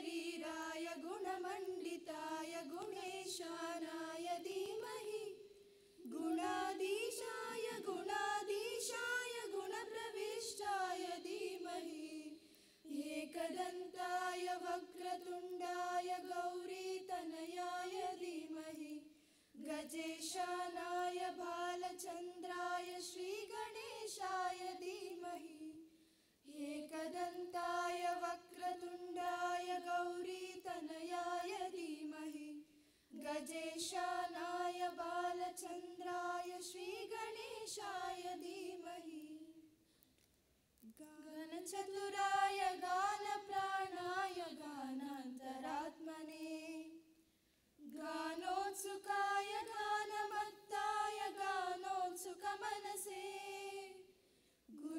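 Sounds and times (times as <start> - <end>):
girls singing in unison: 0.0 - 39.7, 40.9 - 47.1, 47.8 - 54.9.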